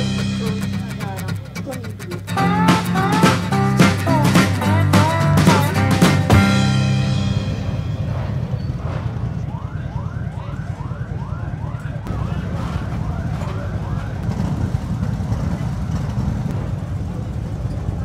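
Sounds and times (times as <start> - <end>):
motorcycles idling: 0.0 - 18.0.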